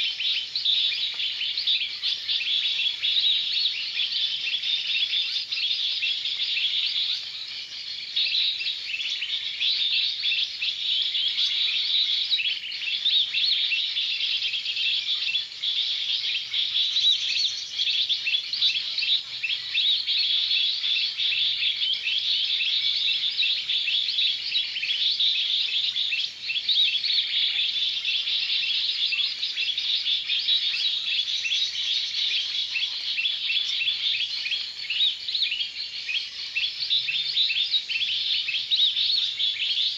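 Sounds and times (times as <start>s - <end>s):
chorus of bird chirps: 0.0s - 39.9s.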